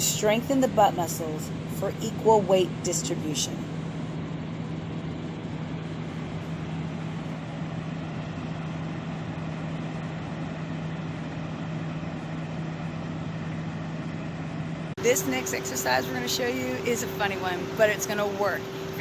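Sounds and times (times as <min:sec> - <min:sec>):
steady mechanical drone: 0:00.0 - 0:19.0.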